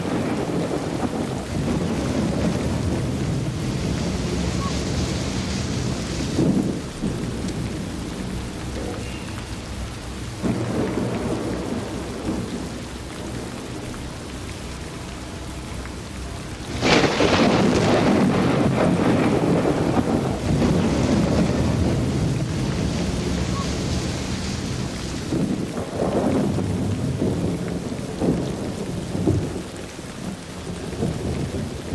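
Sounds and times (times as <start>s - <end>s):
loud thunderclap: 0.0s - 9.0s, 10.3s - 13.9s, 16.7s - 31.9s
low rumbling thunder: 0.0s - 14.6s, 16.4s - 31.9s
heavy rain pouring: 0.0s - 31.9s.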